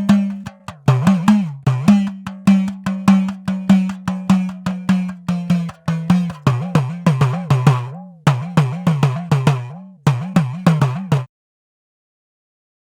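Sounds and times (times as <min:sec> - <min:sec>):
hourglass drum strokes: 0:00.0 - 0:11.3.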